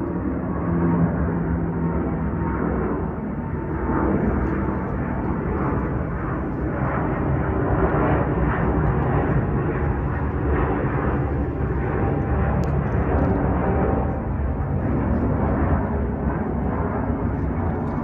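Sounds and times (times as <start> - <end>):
jet engines rumbling overhead: 0.0 - 18.0.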